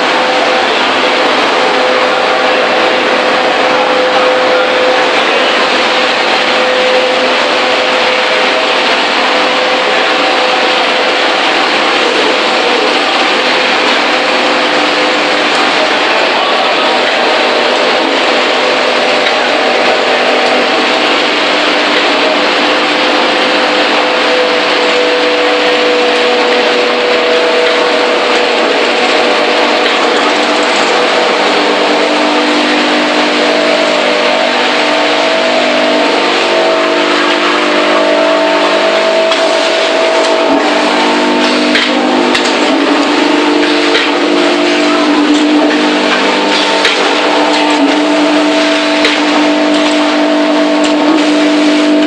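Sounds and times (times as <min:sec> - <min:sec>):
machinery running: 0:00.0 - 0:52.0.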